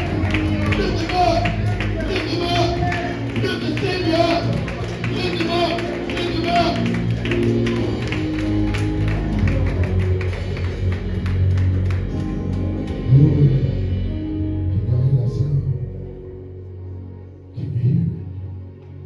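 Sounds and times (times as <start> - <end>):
sustained keyboard chords: 0.0 - 19.0.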